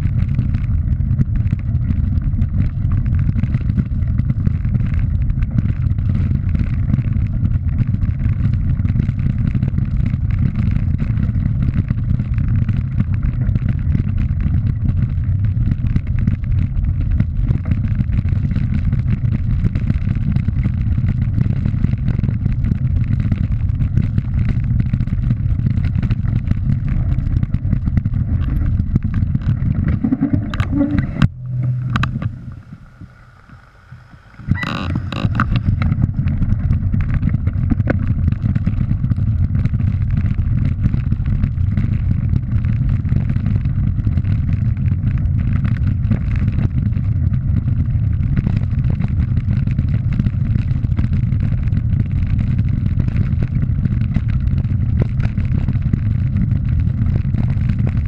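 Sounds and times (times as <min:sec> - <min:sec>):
bike tyres rattling over gravel: 0:00.0 - 0:58.0
wind buffeting camera: 0:00.0 - 0:58.0.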